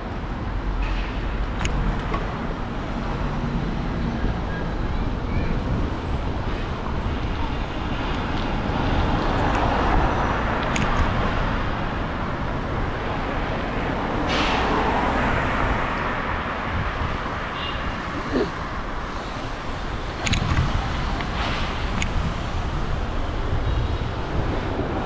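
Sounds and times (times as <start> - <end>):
road traffic rush: 0.0 - 25.0.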